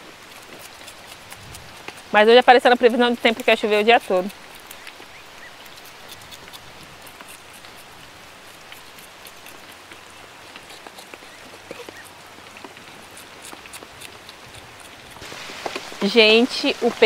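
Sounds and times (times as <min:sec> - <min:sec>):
raindrops ticking on surfaces: 0:00.0 - 0:17.0
steady rain: 0:00.0 - 0:17.0.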